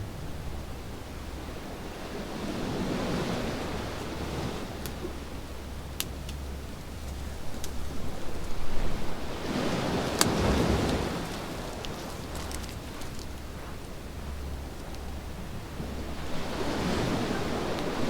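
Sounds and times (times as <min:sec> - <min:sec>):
waves washing onto beach: 0:00.0 - 0:18.0
campfire crackling: 0:03.0 - 0:18.0.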